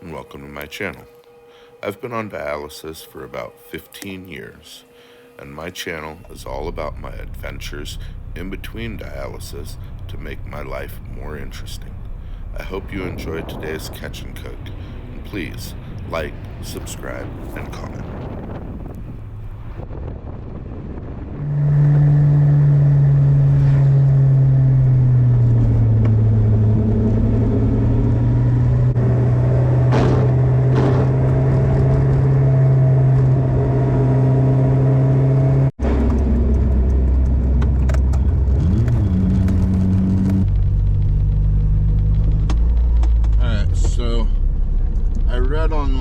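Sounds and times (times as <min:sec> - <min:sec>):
vehicle engine humming: 0:00.0 - 0:19.9, 0:21.4 - 0:46.0.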